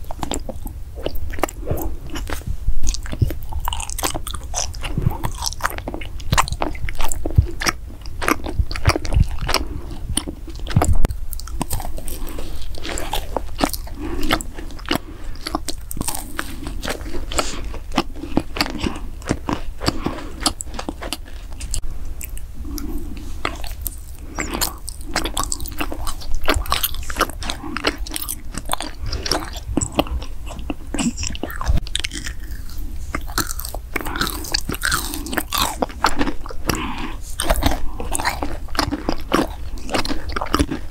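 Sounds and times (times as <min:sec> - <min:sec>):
mouth chewing and biting: 0:00.0 - 0:40.9.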